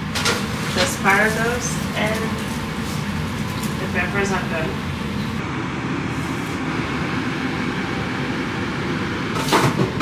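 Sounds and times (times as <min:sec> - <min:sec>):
extractor fan humming: 0:00.0 - 0:10.0.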